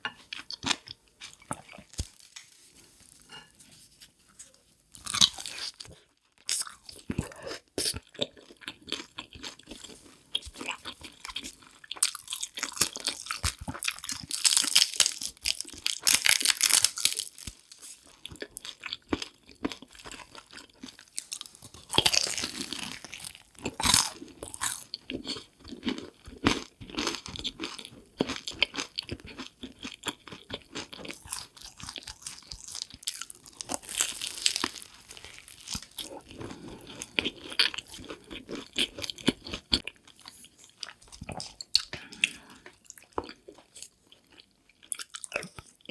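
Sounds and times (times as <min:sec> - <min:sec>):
person chewing crunchy food: 0:00.0 - 0:03.6, 0:04.4 - 0:45.9.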